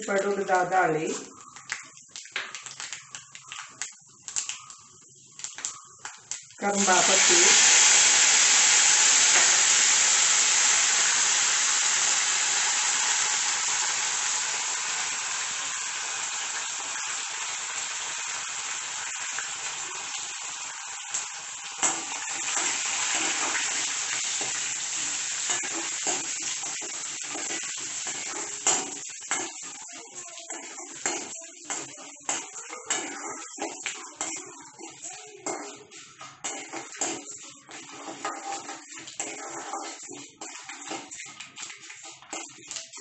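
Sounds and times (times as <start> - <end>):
spices sizzling in hot oil: 0.0 - 43.0.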